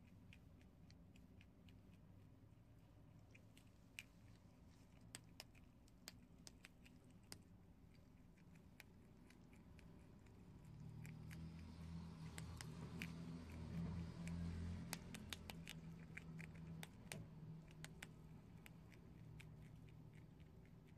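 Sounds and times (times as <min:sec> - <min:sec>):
prairie dog crunching dry noodles: 0:00.0 - 0:20.9.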